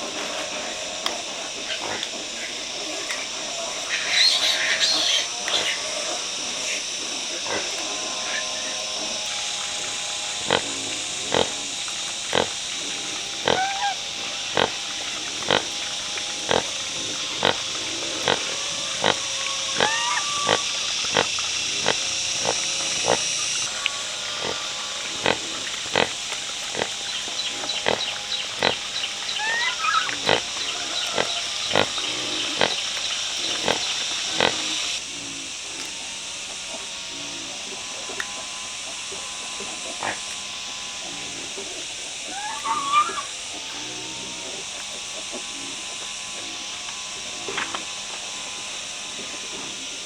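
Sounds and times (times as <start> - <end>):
steady hiss: 0.0 - 50.0
pigs squealing: 0.2 - 35.5, 41.0 - 47.7.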